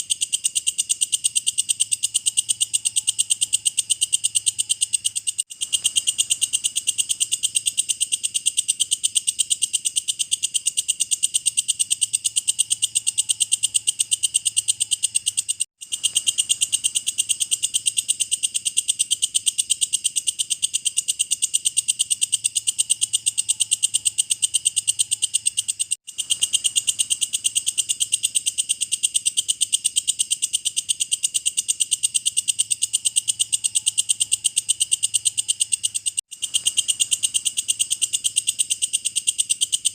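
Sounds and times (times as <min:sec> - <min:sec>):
insect ticking trill: 0:00.0 - 0:39.9.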